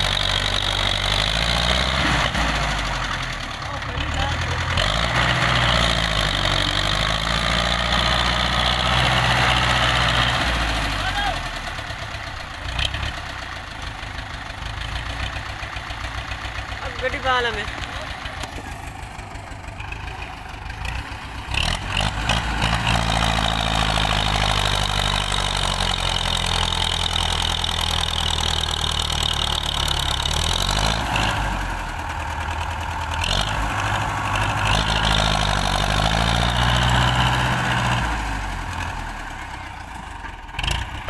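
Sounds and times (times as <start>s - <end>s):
tractor diesel engine straining: 0.0s - 41.0s.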